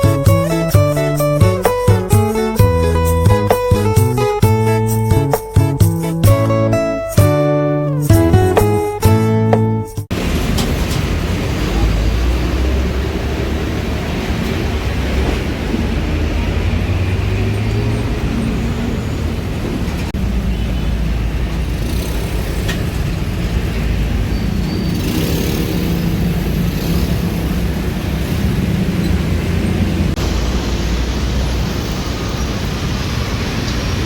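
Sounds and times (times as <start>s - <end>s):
vehicle engines passing: 0.0s - 8.5s, 10.1s - 34.0s
roadway noise: 0.0s - 34.0s.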